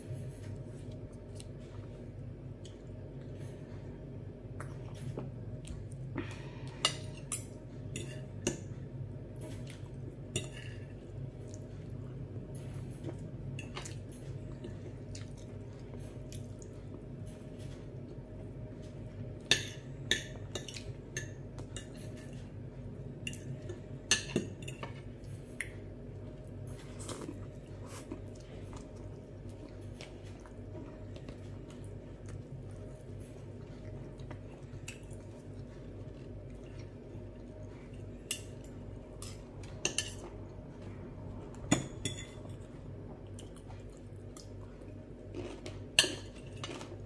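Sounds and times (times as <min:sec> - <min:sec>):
soft chewing: 0:00.0 - 0:47.0
steady low hum: 0:00.0 - 0:47.0.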